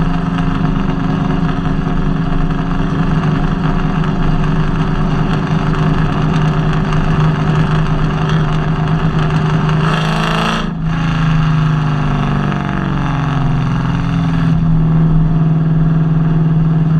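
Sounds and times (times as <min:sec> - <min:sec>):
engine running with misfire: 0:00.0 - 0:16.9.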